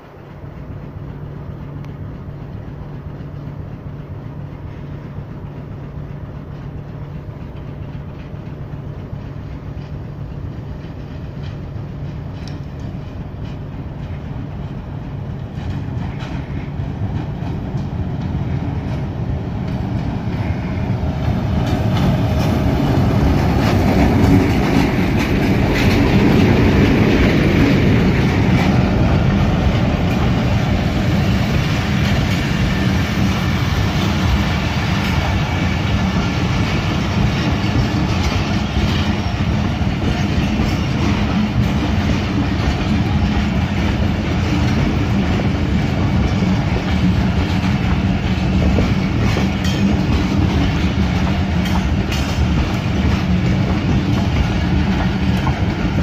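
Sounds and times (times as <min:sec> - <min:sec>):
diesel locomotive passing: 0:00.0 - 0:56.0
wheels clacking over rail joints: 0:00.0 - 0:56.0.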